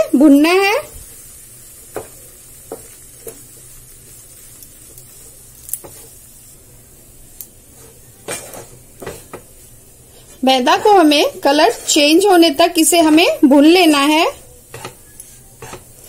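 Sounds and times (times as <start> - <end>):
faint steady sizzle: 0.0 - 16.0
wooden spatula scraping a pan: 0.4 - 6.5, 7.6 - 16.0.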